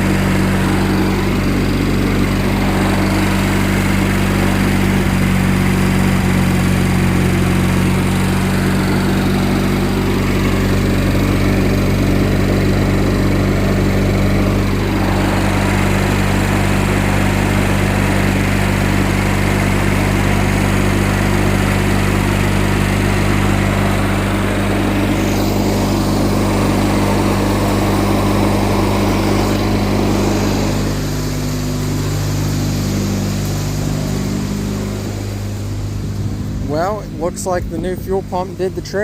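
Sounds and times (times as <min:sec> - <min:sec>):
riding mower engine running: 0:00.0 - 0:39.0.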